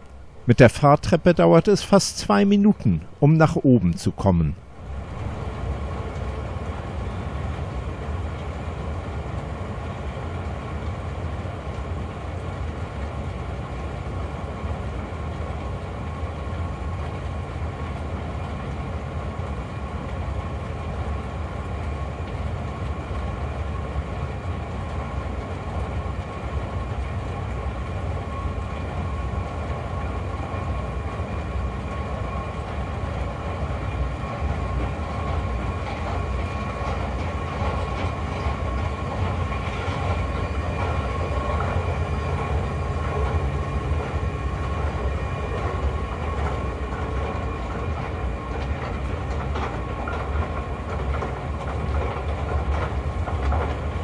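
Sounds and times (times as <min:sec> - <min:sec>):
escalator rumbling: 0:00.0 - 0:54.0
thin steady whine: 0:00.0 - 0:54.0.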